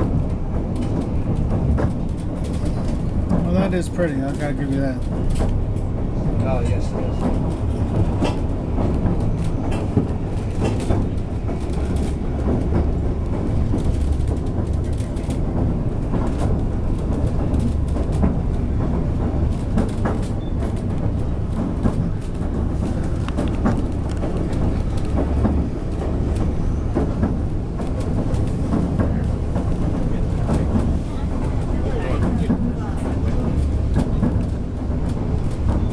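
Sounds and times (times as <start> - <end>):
railcar rumbling along track: 0.0 - 35.9.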